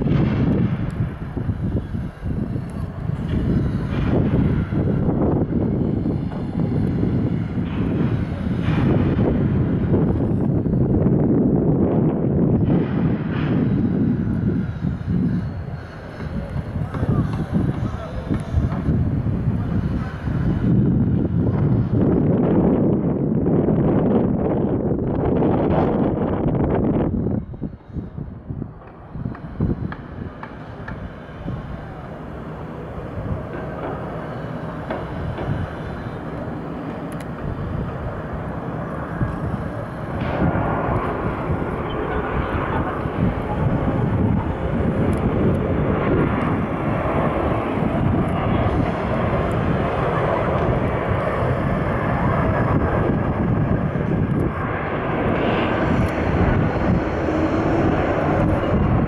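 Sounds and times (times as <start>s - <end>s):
jet engines landing: 0.0s - 59.0s.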